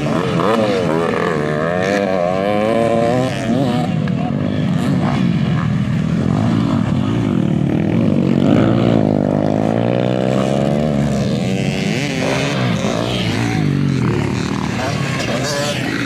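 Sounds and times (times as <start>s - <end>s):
dirt bike engines revving past: 0.0s - 16.0s.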